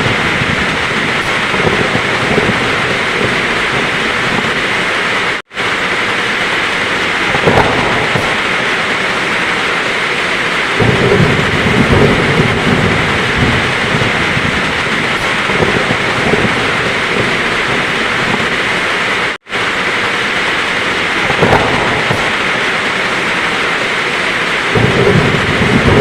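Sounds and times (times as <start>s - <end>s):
heavy rain pouring: 0.0s - 26.0s
thunder rumbling: 0.0s - 26.0s.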